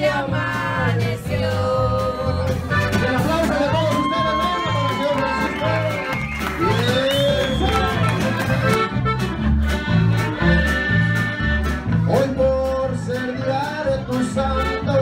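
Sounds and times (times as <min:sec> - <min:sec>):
accordion: 0:00.0 - 0:15.0
guitar: 0:00.0 - 0:15.0
steady bass beat: 0:00.0 - 0:15.0.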